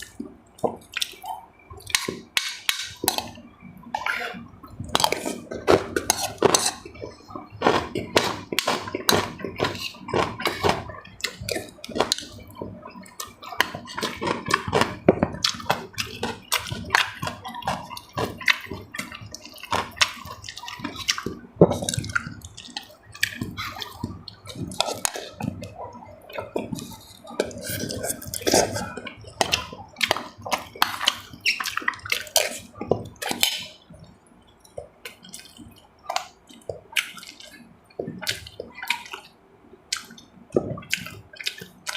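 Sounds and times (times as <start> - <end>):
wet slurping and chewing: 0.0 - 41.9.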